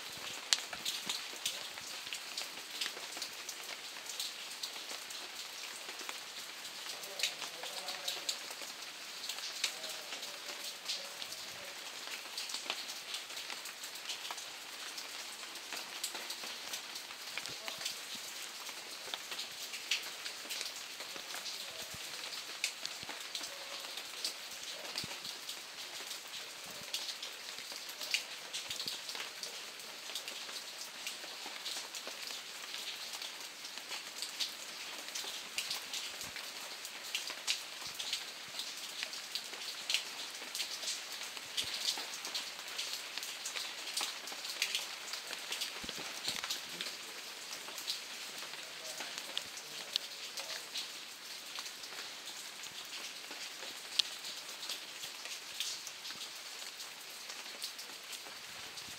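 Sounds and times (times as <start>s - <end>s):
raindrops ticking: 0.0s - 58.9s
steady rain falling: 0.0s - 58.9s.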